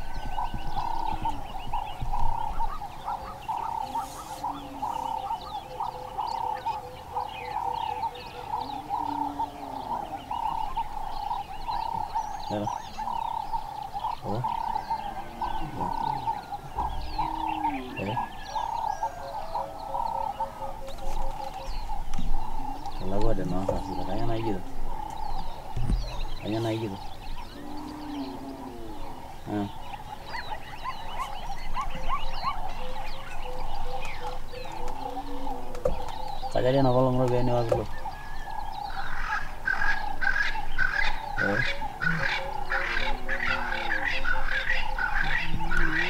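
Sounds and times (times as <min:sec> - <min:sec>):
birds chirping: 0:00.0 - 0:46.0
low cooing call: 0:00.0 - 0:46.0.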